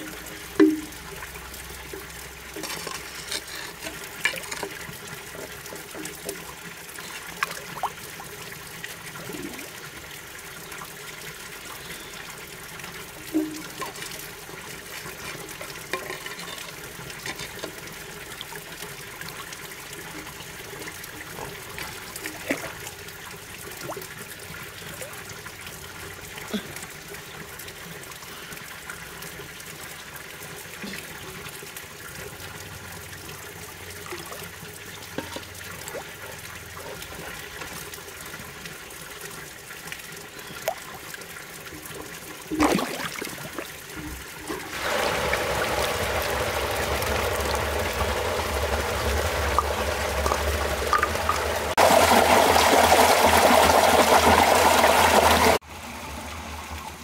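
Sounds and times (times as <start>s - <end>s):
rushing water: 0.0s - 57.0s
water sloshing and trickling: 0.0s - 57.0s.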